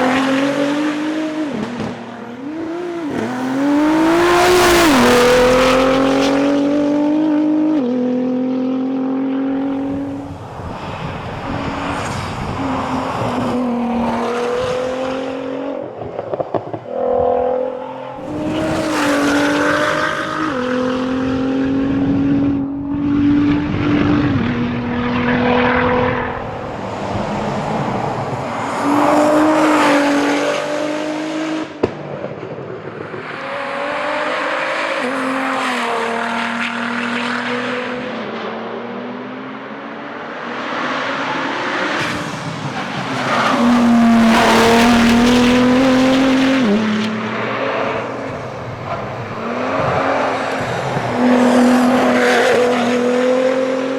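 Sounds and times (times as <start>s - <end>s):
car engine revving through gears: 0.0s - 31.9s, 33.2s - 53.9s.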